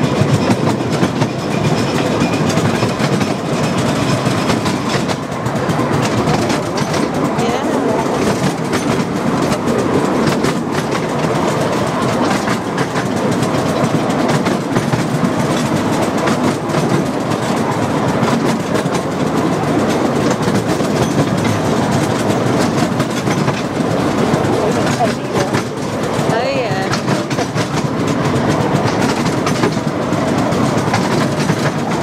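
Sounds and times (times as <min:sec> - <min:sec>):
carriage wheels rumbling: 0:00.0 - 0:32.0
clicks over rail joints: 0:00.0 - 0:32.0.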